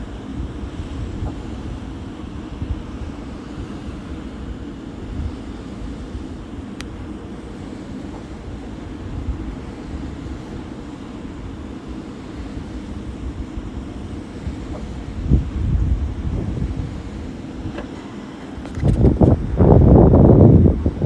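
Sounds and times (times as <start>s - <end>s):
wind buffeting microphone: 0.0s - 21.0s
wind turbine low drone: 0.0s - 21.0s.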